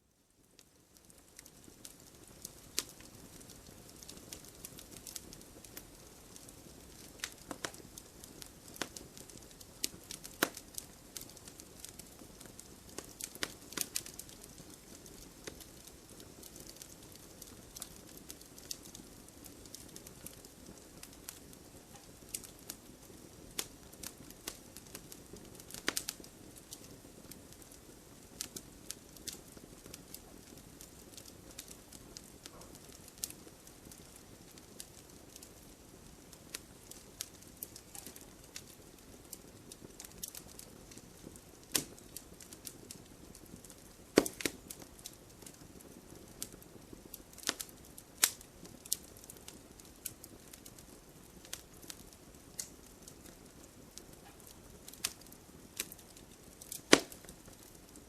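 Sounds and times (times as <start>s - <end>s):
wood crackling and popping: 0.4s - 58.0s
flames hissing: 1.1s - 58.0s.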